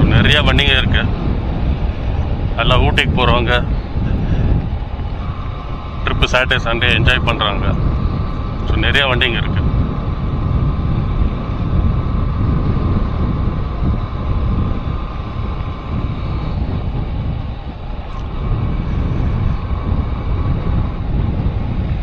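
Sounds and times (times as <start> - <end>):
motorcycle engine and road rumble: 0.0 - 22.0
wind buffeting microphone: 0.0 - 22.0.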